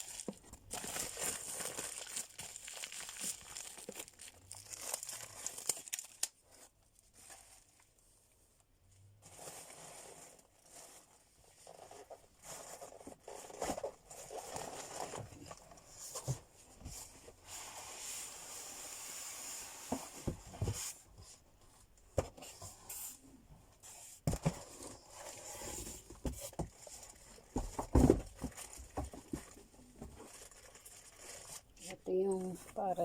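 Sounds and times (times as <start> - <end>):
plastic and paper rustling: 0.0 - 8.0, 9.0 - 21.4, 23.9 - 33.0.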